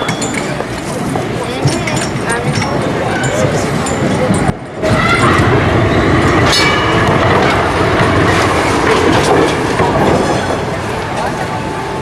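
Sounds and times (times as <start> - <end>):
tram wheels clattering over rails: 0.0 - 12.0.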